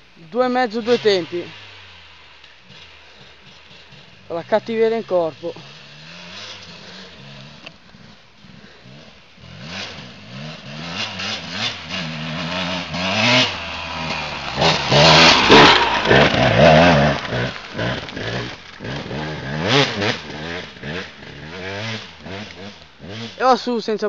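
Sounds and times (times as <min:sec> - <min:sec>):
two-stroke motorcycle revving: 0:00.0 - 0:24.0.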